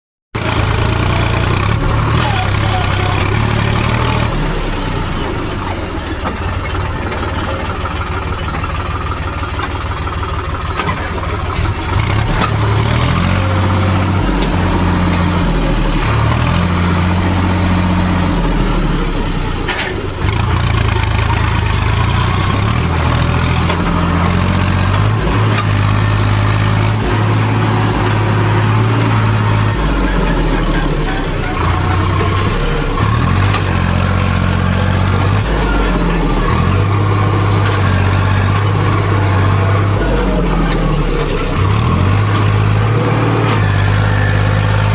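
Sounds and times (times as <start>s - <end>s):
diesel tractor engine under load: 0.3s - 44.9s.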